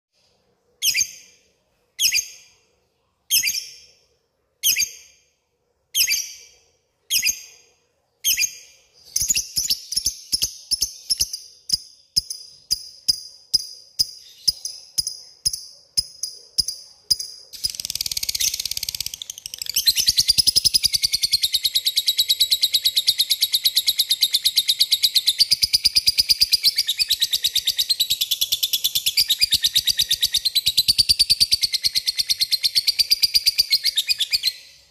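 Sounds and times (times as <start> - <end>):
lovebird chirping and trilling: 0.8 - 1.4, 2.0 - 2.6, 3.3 - 3.9, 4.6 - 5.2, 5.9 - 7.6, 8.2 - 34.9.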